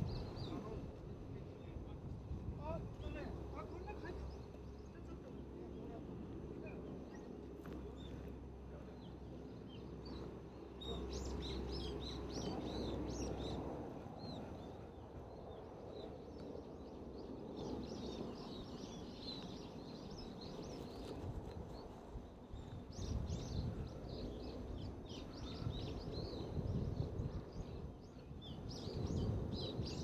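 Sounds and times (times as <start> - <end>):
small birds chirping: 0.0 - 1.9, 2.6 - 30.0.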